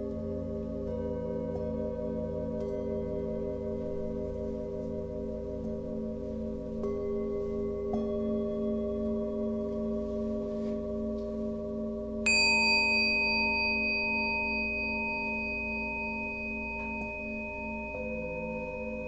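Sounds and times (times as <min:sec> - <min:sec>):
high bell-like tone: 0:00.9 - 0:19.0.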